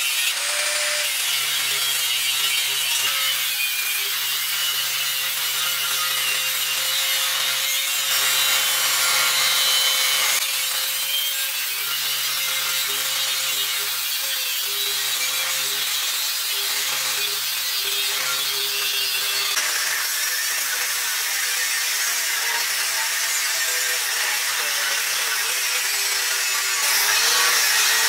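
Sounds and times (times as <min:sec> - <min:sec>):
angle grinder grinding steel: 0:00.0 - 0:28.0.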